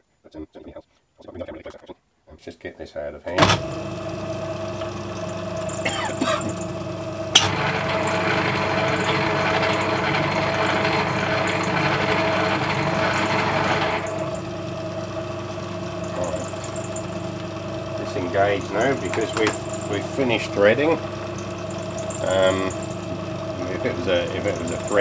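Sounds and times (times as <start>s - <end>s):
lathe gears whirring: 3.4s - 25.0s
lathe humming: 3.4s - 25.0s.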